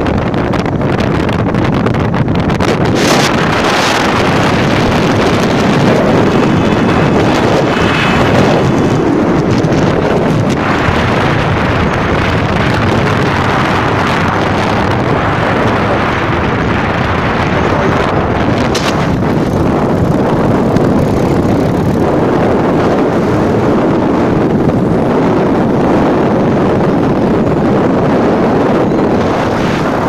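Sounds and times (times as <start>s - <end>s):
heavy wind on microphone: 0.0s - 30.0s
small motorcycle engine running: 1.1s - 29.3s.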